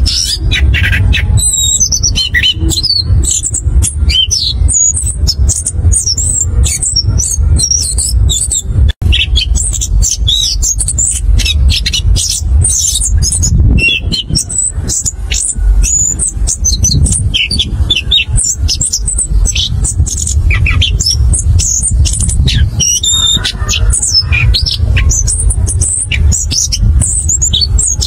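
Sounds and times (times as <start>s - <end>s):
bird singing: 0.0s - 28.0s
low rumble: 0.0s - 28.0s.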